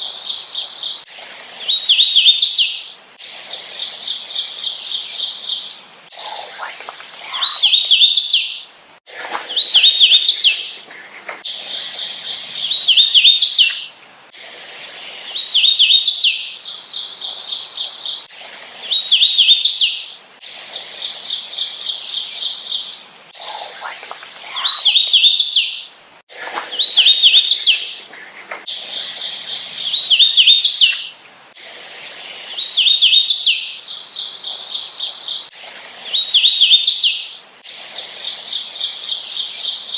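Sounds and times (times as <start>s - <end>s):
warbler singing: 0.0s - 14.0s, 14.9s - 20.2s, 20.8s - 31.2s, 31.9s - 39.9s.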